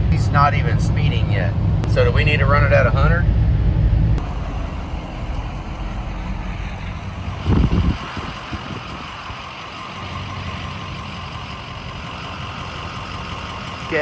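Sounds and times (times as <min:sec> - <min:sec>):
diesel pickup engine rumble: 0:00.0 - 0:14.0.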